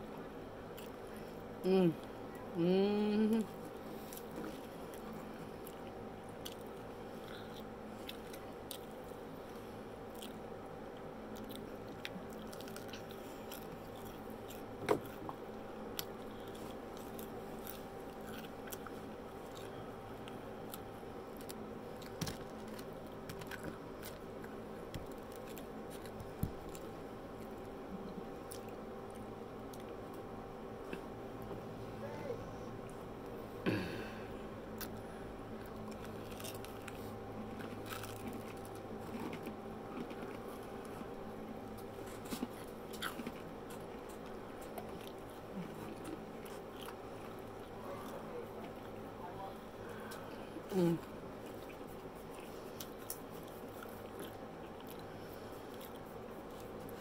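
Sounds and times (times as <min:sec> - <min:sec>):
steady background hum: 0:00.0 - 0:57.0
person chewing crunchy food: 0:00.6 - 0:01.5, 0:03.5 - 0:31.1, 0:34.7 - 0:57.0.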